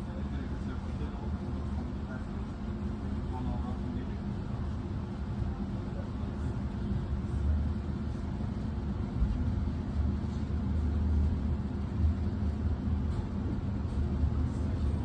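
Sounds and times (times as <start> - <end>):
train rumbling with hum: 0.0 - 15.0.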